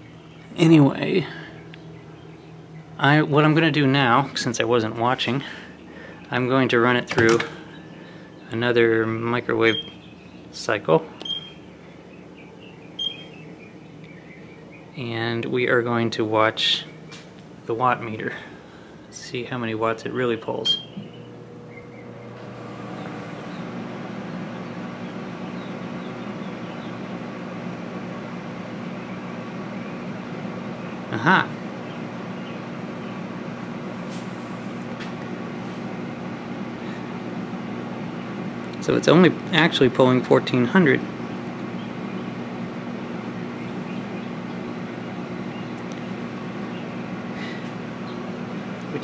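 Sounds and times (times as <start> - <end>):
microwave humming: 0.0 - 49.0.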